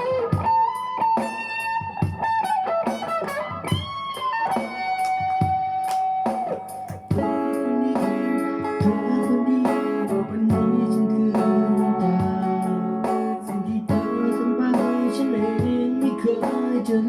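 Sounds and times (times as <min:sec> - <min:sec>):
guitar playing picked melody: 0:00.0 - 0:17.0.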